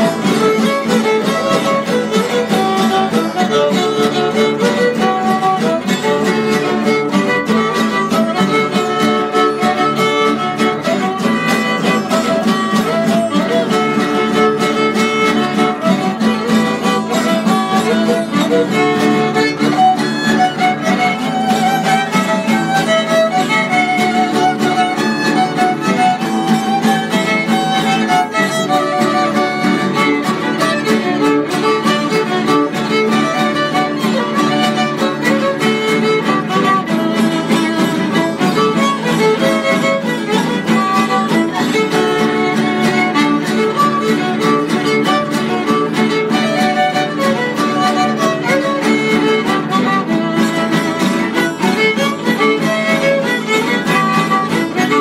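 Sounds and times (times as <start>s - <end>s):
strummed acoustic guitars: 0.0s - 55.0s
violin melody: 0.0s - 55.0s.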